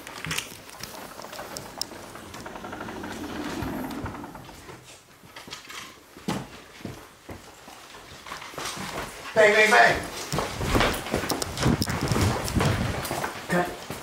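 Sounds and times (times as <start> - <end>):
footsteps and shuffling: 0.0 - 14.0.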